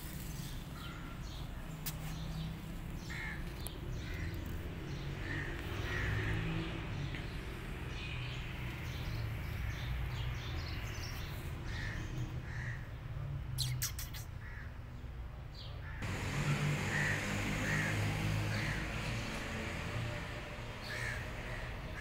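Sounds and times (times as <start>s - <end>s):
birds calling: 0.0s - 13.0s, 15.6s - 22.0s.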